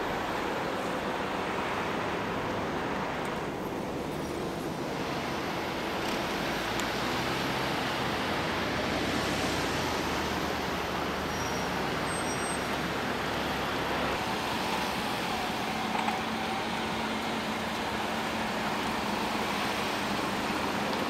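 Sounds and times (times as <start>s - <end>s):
traffic driving past: 0.0s - 21.0s.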